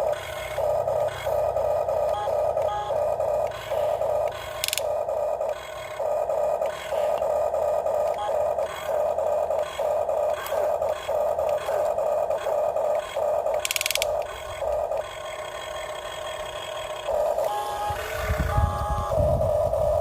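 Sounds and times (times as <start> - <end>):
buzzing rattle: 0.0 - 20.0
toy electric motors whining: 0.0 - 20.0.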